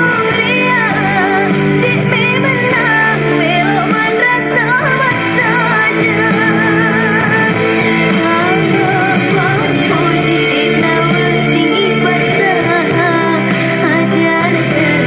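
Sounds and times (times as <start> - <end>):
pop song through loudspeaker: 0.0 - 15.0.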